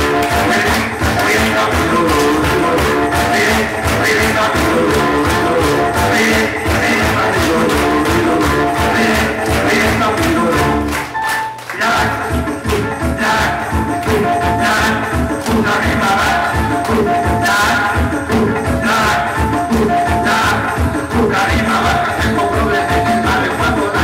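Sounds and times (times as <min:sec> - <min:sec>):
dance music with steady beat: 0:00.0 - 0:24.0.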